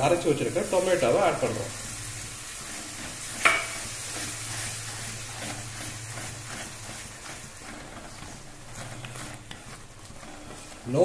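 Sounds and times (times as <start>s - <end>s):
masala sizzling in a pan: 0.0s - 11.0s
wooden spatula stirring: 0.0s - 11.0s.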